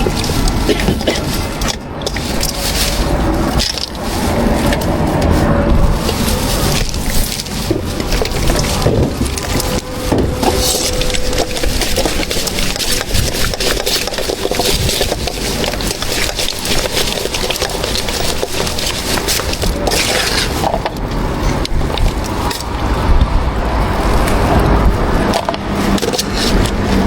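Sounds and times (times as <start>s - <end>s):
food being scraped and handled: 0.0s - 27.0s.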